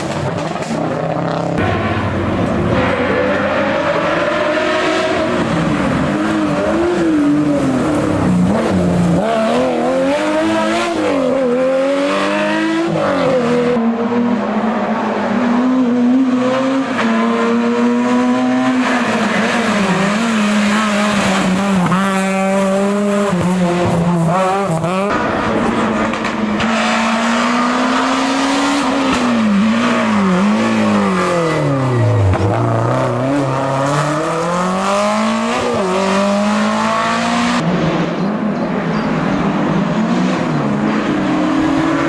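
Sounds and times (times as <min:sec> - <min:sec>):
rally car engine revving: 0:00.0 - 0:42.0.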